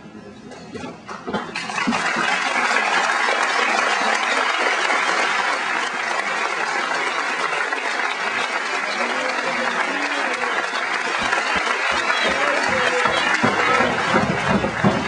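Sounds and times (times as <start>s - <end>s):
crowd applauding: 1.4s - 15.0s.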